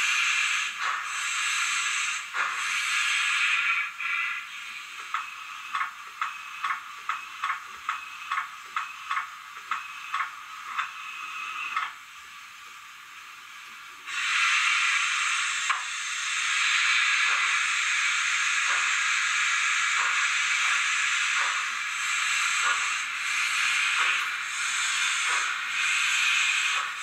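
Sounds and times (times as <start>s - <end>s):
steam exhaust chuffs: 0.0s - 11.9s, 14.0s - 27.0s
steam hiss: 0.0s - 27.0s.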